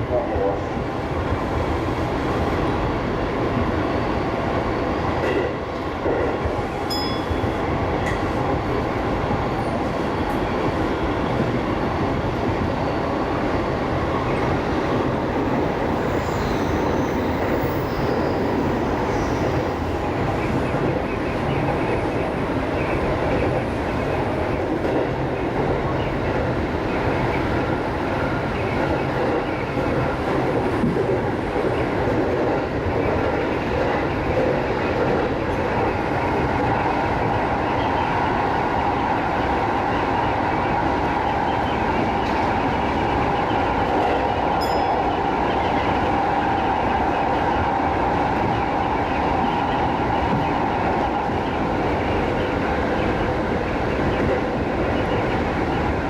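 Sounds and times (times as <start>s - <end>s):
train wheels rumbling on rails: 0.0s - 56.0s
clickety-clack over rail joints: 5.1s - 12.7s, 14.2s - 56.0s.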